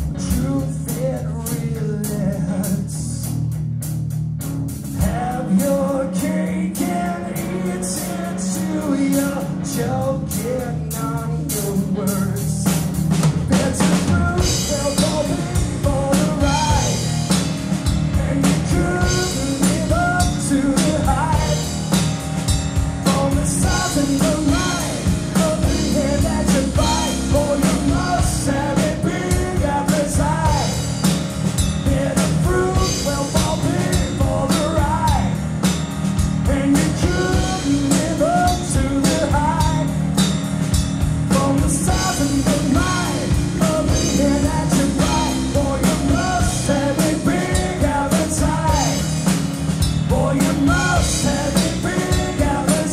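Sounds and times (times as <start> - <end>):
bass guitar: 0.0 - 52.9
drum kit: 0.0 - 52.9.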